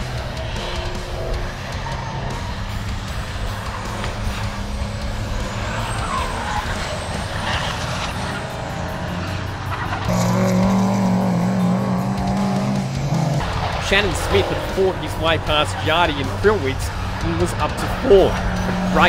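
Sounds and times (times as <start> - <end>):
diesel truck engines racing: 0.0 - 19.0.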